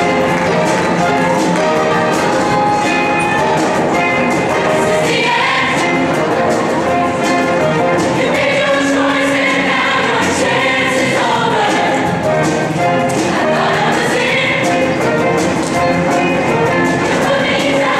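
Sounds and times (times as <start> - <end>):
choir singing in harmony: 0.0 - 17.9
instrumental backing with steady beat: 0.0 - 17.9.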